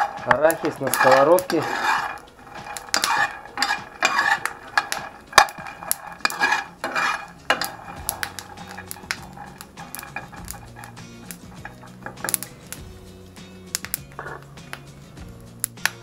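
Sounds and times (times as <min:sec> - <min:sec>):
metal spoon scraping frying pan: 0:00.0 - 0:16.0.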